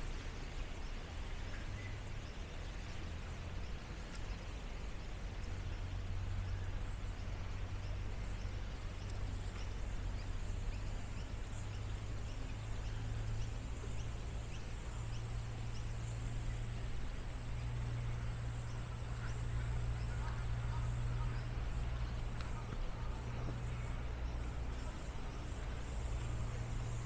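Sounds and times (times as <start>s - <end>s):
low rumble and hiss: 0.0s - 27.0s.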